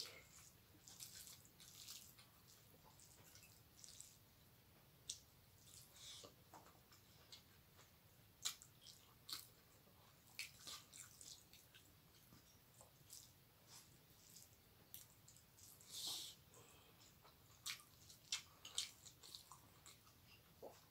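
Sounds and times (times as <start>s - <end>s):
person chewing: 0.0s - 4.2s, 5.0s - 20.9s.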